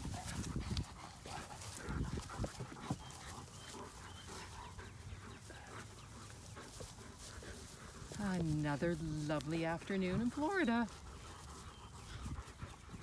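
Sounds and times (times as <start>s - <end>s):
dog breathing and snuffling: 0.0s - 13.0s.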